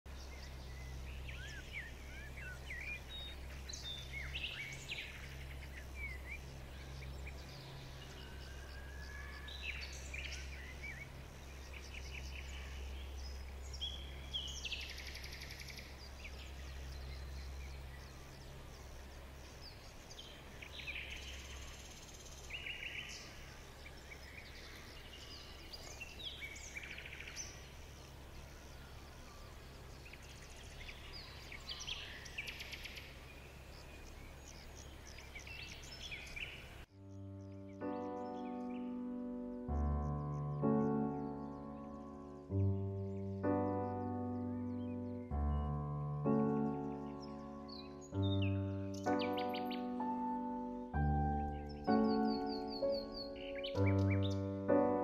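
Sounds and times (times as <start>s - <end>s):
small birds chirping: 0.1s - 55.0s.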